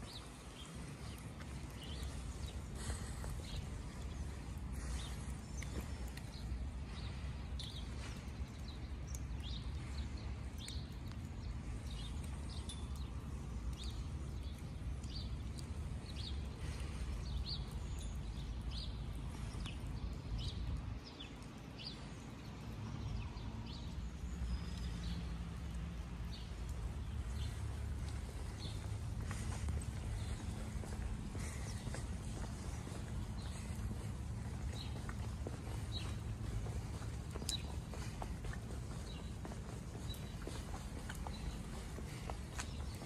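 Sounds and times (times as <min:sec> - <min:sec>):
footsteps on wet ground: 0:00.0 - 0:43.0.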